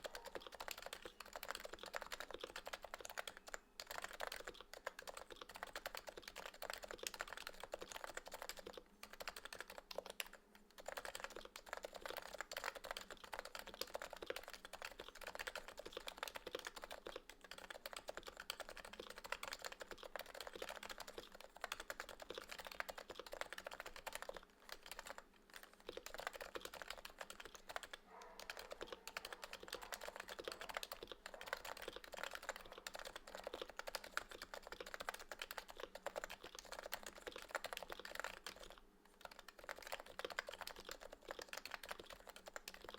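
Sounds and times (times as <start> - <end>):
keyboard typing: 0.0 - 42.9.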